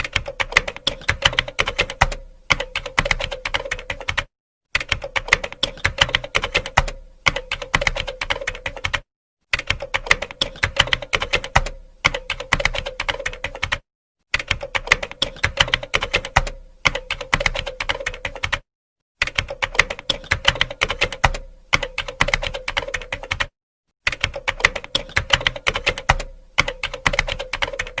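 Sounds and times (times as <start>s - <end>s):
fast keyboard typing: 0.0s - 23.5s, 24.1s - 28.0s.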